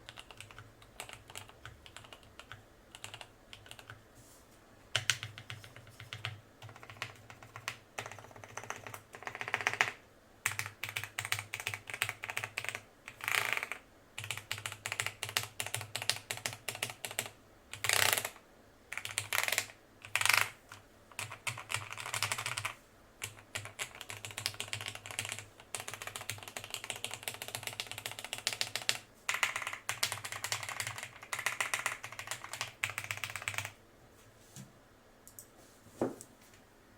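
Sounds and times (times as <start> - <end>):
typing on mechanical keyboard: 0.0 - 4.0, 4.9 - 33.8.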